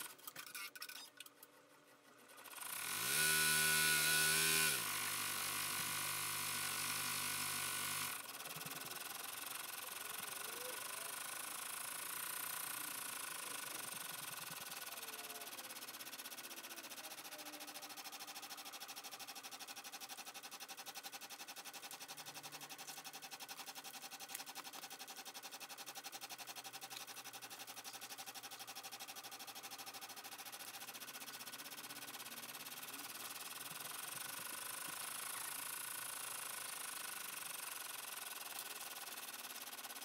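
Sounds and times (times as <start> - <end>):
embroidery machine stitching: 2.1 - 40.0.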